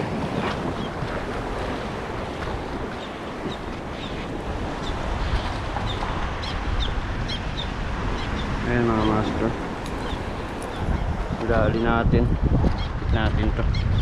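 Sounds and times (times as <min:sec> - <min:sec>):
sea water washing: 0:00.0 - 0:14.0
wind buffeting microphone: 0:00.0 - 0:14.0.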